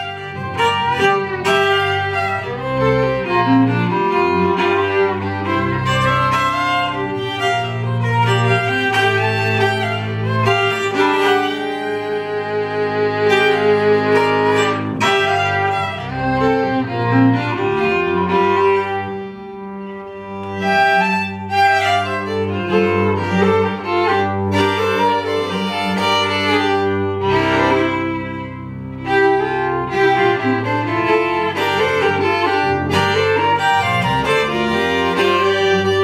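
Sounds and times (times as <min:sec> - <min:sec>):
fiddles playing: 0:00.0 - 0:36.0
upright bass: 0:00.0 - 0:36.0.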